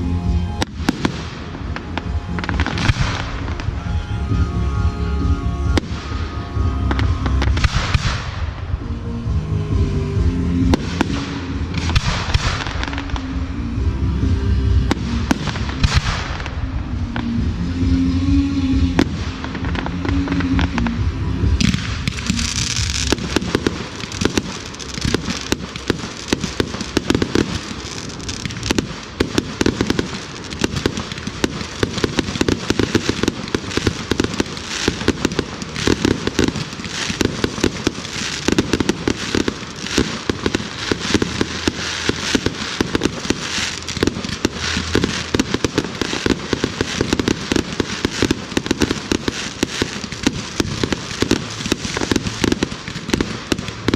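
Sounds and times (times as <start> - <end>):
fireworks bangs: 0.0 - 8.9, 9.7 - 53.9
fireworks crackle: 0.0 - 53.9.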